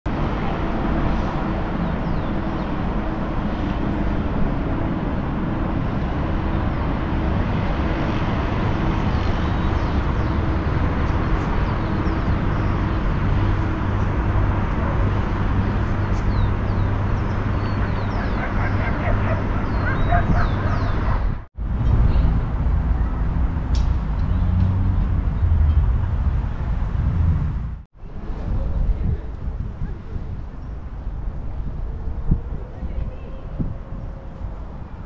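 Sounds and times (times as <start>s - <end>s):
city traffic hum: 0.1s - 35.0s.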